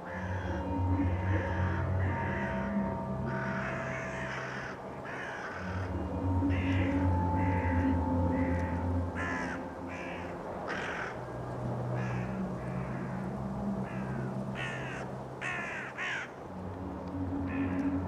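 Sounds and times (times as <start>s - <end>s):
low steady drone: 0.0s - 18.0s
crows cawing: 0.1s - 11.3s, 11.9s - 16.4s.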